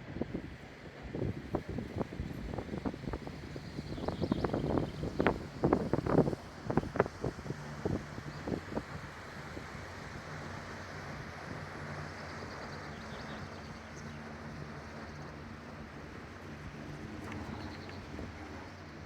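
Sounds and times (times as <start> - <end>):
cable car rushing hum: 0.0 - 19.0.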